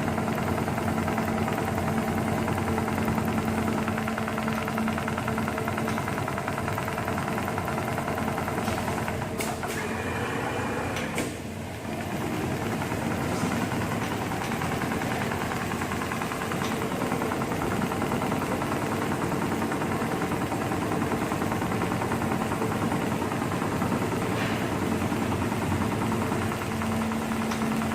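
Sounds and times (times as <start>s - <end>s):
sewing machine stitching: 0.0s - 27.9s.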